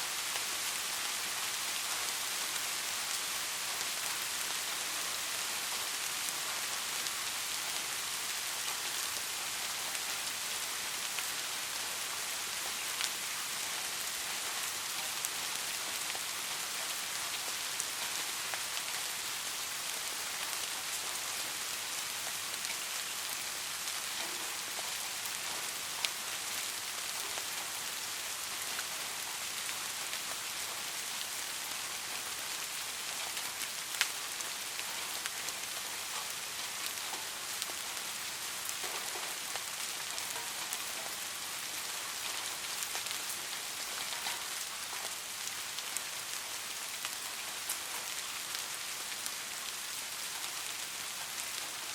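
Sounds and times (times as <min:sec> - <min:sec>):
rain falling on a street: 0:00.0 - 0:51.9.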